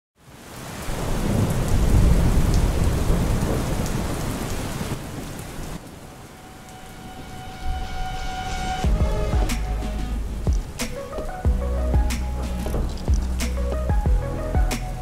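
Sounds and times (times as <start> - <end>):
rain falling: 0.2 - 15.0
thunder rolling: 0.9 - 4.9, 6.0 - 15.0.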